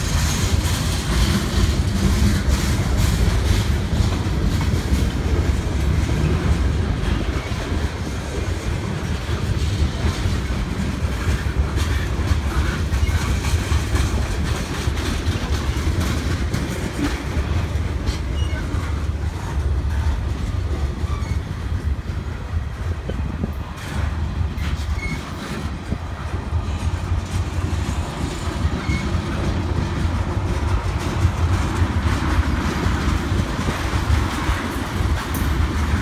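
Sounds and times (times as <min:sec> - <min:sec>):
freight train rumbling past: 0:00.0 - 0:36.0
wheels clicking over rail joints: 0:00.0 - 0:36.0.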